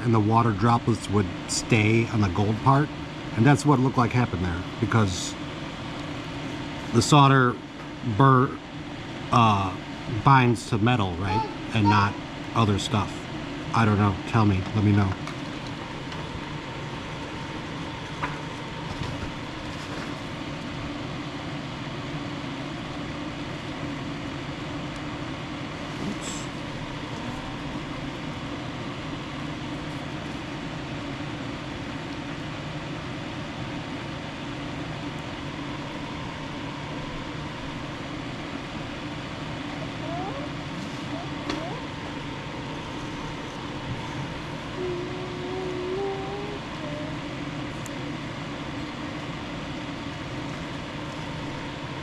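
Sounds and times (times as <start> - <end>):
machine or fan hum and hiss: 0.0 - 52.0.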